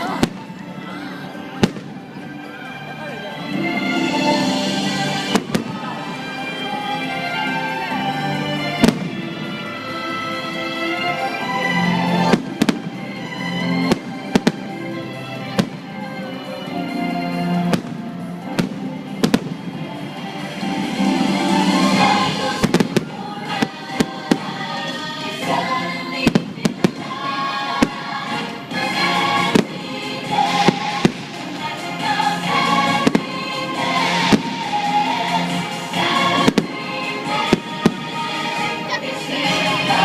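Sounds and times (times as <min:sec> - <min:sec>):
fireworks bangs: 0:00.0 - 0:02.3, 0:04.4 - 0:07.9, 0:08.6 - 0:10.2, 0:12.2 - 0:14.8, 0:15.5 - 0:16.1, 0:17.6 - 0:40.0
loud show music: 0:00.0 - 0:40.0.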